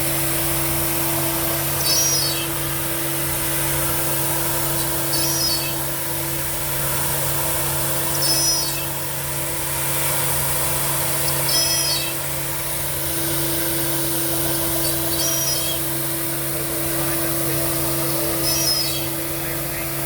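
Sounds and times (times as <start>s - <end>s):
machine hum and hiss: 0.0s - 20.0s.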